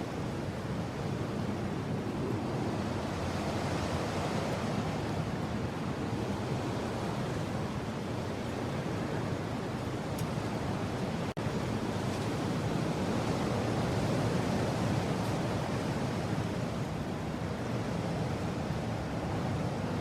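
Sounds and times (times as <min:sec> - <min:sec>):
wind blowing: 0:00.0 - 0:20.0.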